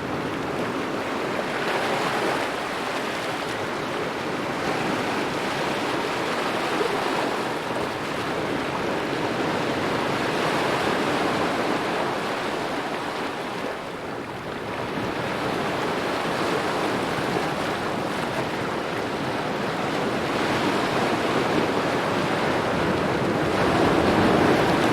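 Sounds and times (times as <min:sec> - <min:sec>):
small waves lapping on shore: 0:00.1 - 0:24.9.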